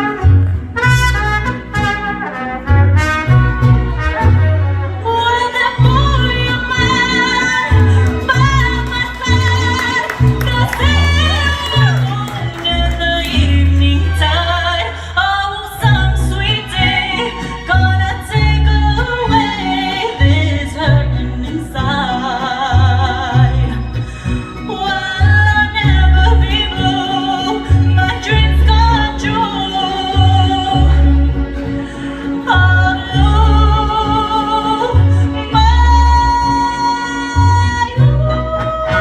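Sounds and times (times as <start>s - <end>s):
pulsing bass notes: 0.0s - 24.5s, 25.2s - 39.0s
vibrato violins: 0.0s - 39.0s
person singing: 5.0s - 39.0s.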